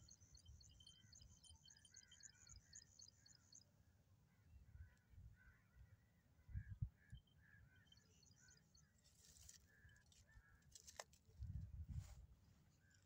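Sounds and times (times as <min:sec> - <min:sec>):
faint birds calling: 0:00.0 - 0:10.8.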